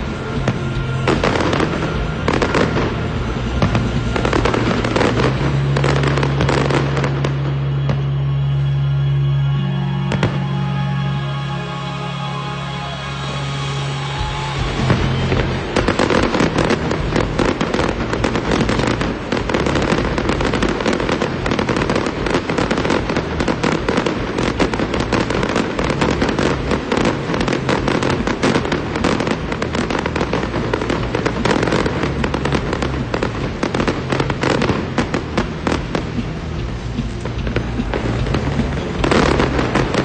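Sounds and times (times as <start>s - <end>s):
fireworks bangs and crackling: 0.0s - 9.0s, 10.0s - 10.7s, 12.8s - 40.0s.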